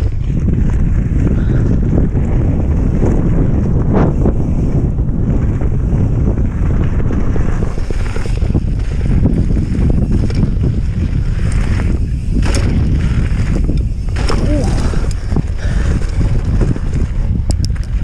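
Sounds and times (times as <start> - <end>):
bike tyres rumbling on gravel: 0.0 - 18.0
wind buffeting microphone: 0.0 - 18.0.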